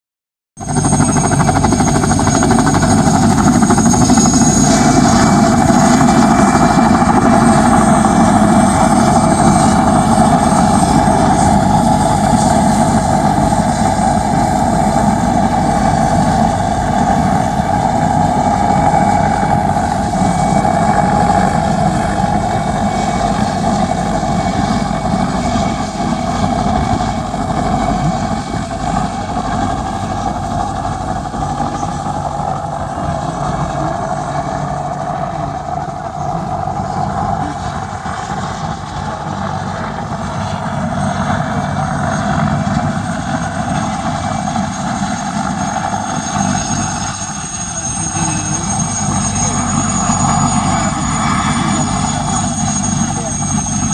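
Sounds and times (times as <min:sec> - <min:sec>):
helicopter engines and rotor: 0:00.6 - 0:53.9.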